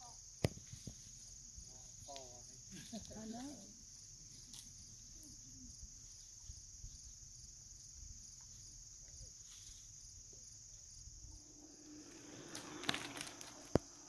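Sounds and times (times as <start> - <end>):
high-pitched insect chorus: 0.0 - 14.0
pulsing insect call: 0.0 - 14.0.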